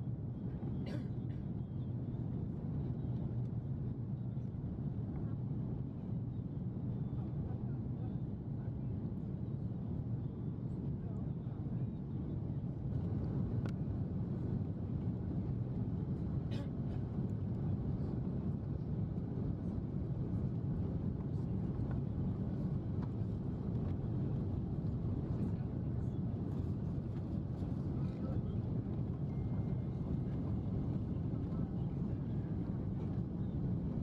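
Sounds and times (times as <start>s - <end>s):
airliner cabin engine rumble: 0.0s - 34.0s.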